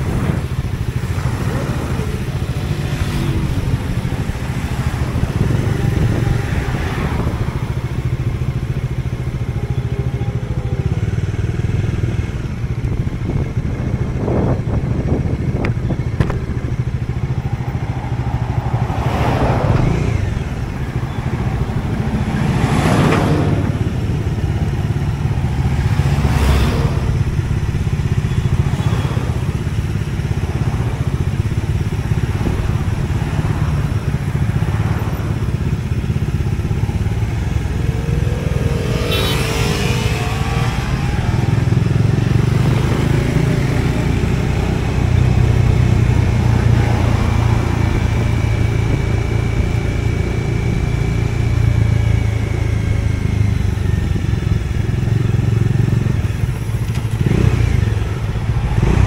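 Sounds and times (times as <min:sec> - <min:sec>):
motorcycle engine: 0:00.0 - 0:59.0
vehicles passing close by: 0:00.0 - 0:59.0
wind rumble: 0:00.0 - 0:59.0.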